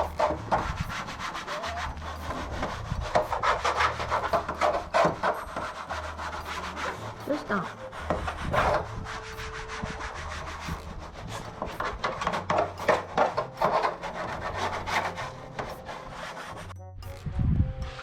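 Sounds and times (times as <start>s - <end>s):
dog paws scratching fabric: 0.0s - 16.8s.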